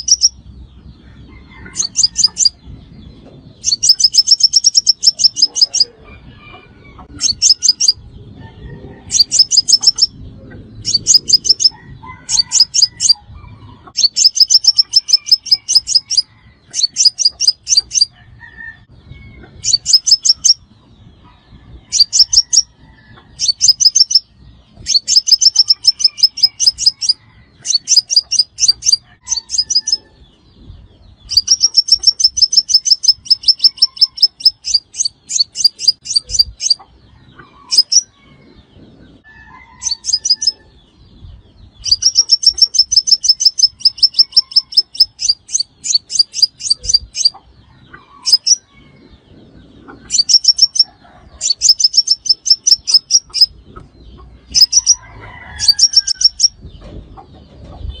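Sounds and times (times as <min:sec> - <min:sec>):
bird high ticking song: 0:00.0 - 0:06.0, 0:07.0 - 0:08.2, 0:09.1 - 0:18.2, 0:18.8 - 0:21.3, 0:21.9 - 0:39.0, 0:39.8 - 0:58.0.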